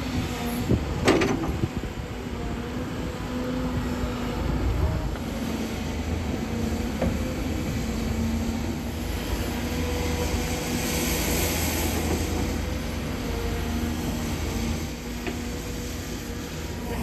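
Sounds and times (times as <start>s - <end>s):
excavator engine running: 0.1s - 17.0s.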